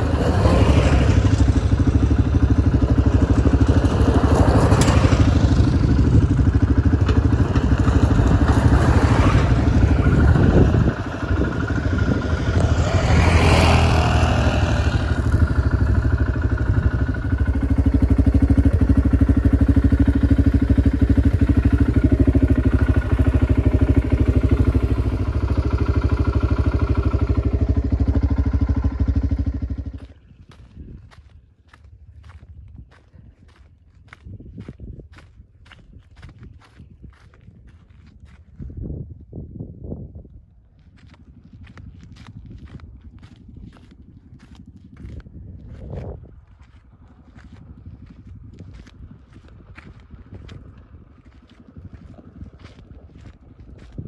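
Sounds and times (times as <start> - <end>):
rattling over rough ground: 0.0 - 38.8, 40.4 - 54.0
atv engine running: 0.0 - 39.1, 40.5 - 54.0
wind noise: 0.0 - 54.0.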